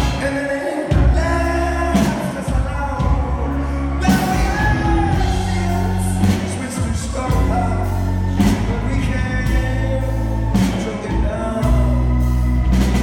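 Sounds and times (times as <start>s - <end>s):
live rock band playing: 0.0s - 13.0s
singer: 0.0s - 13.0s.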